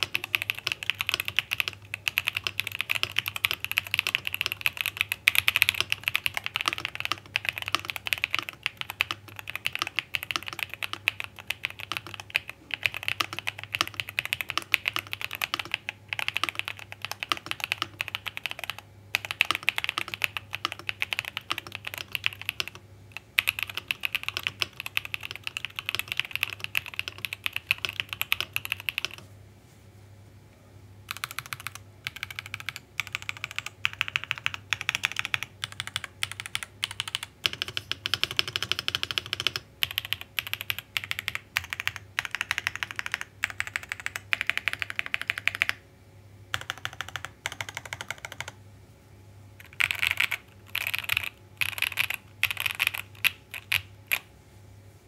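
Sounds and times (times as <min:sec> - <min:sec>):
mechanical keyboard typing: 0:00.0 - 0:29.2, 0:31.1 - 0:45.8, 0:46.5 - 0:48.6, 0:49.6 - 0:54.3.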